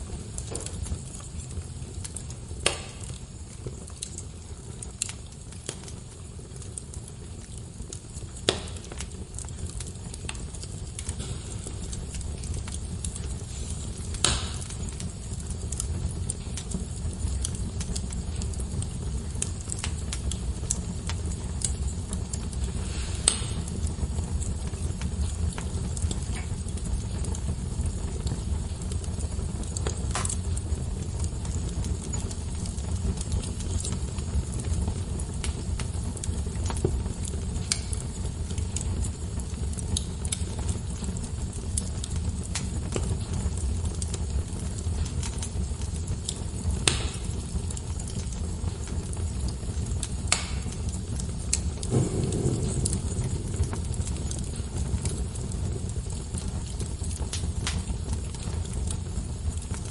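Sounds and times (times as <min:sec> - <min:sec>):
low fire rumble: 0:00.0 - 0:59.9
wood fire crackling and popping: 0:00.0 - 0:59.9.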